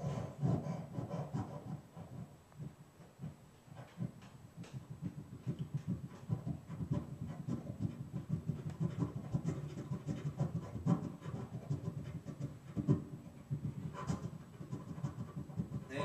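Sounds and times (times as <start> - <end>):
mouth noises into microphone: 1.4 - 16.0.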